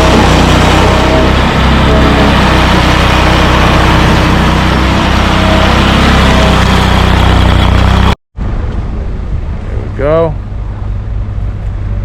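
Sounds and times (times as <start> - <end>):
large engine running loudly: 0.0 - 12.0.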